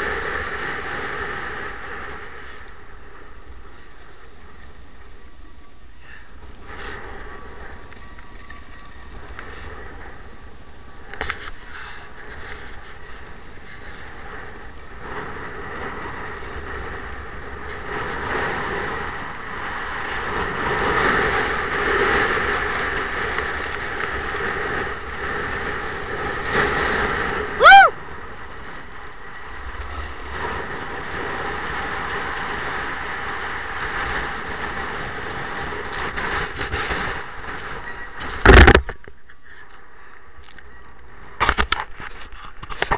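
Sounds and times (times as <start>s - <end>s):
snowboard scraping on snow: 0.0s - 5.0s, 6.6s - 38.8s.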